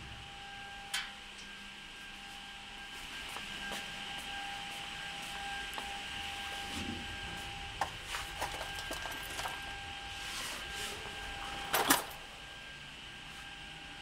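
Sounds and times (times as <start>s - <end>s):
boring machine humming: 0.0s - 14.0s.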